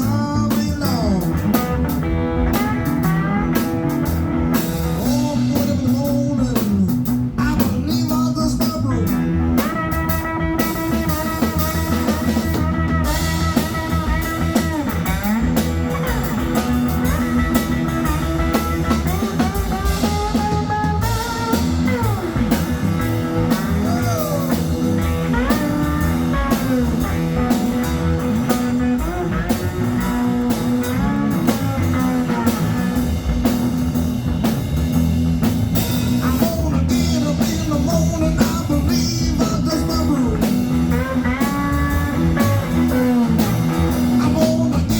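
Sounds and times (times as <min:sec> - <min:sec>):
drums keeping a beat: 0:00.0 - 0:44.9
slide guitar blues: 0:00.0 - 0:44.9.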